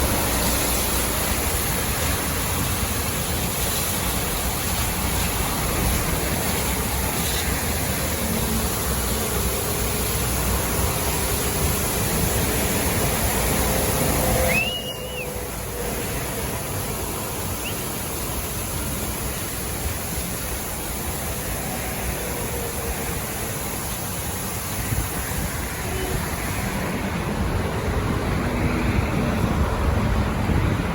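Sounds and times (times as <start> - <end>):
water jets spraying: 0.0 - 30.9.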